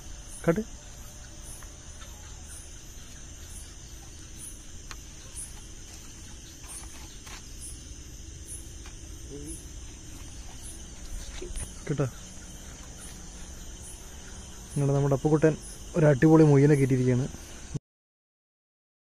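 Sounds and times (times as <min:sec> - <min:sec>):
crickets trilling: 0:00.0 - 0:17.8
insect chirps: 0:00.0 - 0:17.8.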